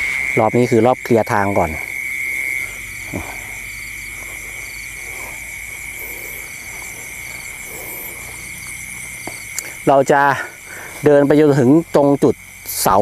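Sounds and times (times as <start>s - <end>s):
faint frog calls: 0.0s - 13.0s
high insect drone: 0.0s - 13.0s
short insect chirps: 0.0s - 13.0s.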